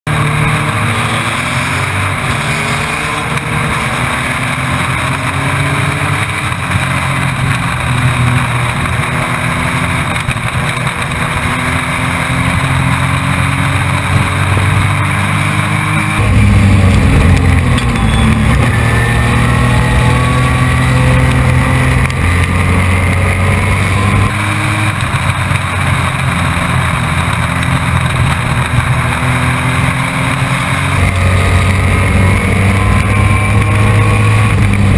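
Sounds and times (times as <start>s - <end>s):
race truck engine revving: 0.1s - 34.9s
wind and road noise: 0.1s - 34.9s.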